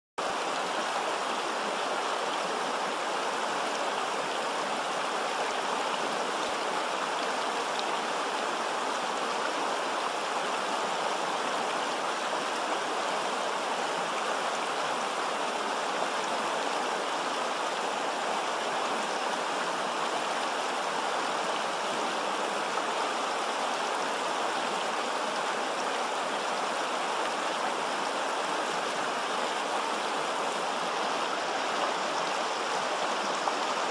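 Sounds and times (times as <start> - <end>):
river rushing over stones: 0.2 - 33.9.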